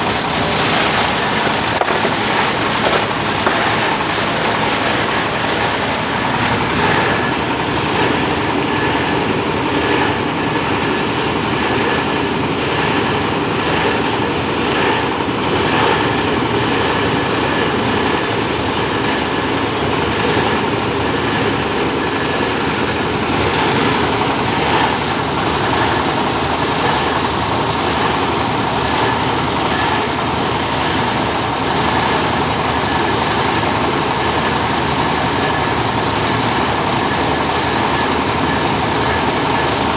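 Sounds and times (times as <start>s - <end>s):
shredder machine running: 0.0s - 39.9s.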